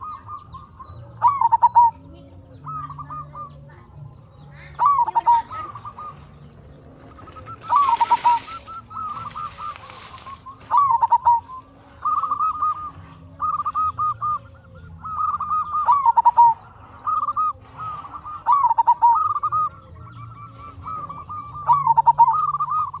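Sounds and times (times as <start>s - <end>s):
dove cooing song: 0.0s - 23.0s.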